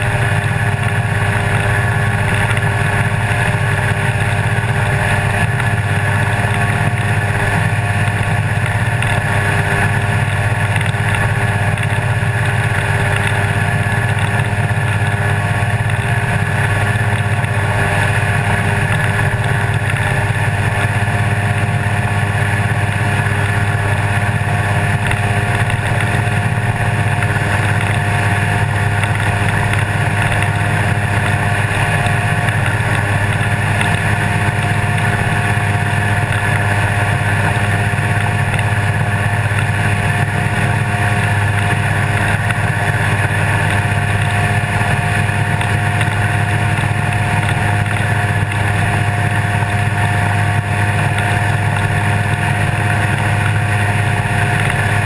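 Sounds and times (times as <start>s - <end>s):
ultralight aircraft engine droning: 0.0s - 55.0s.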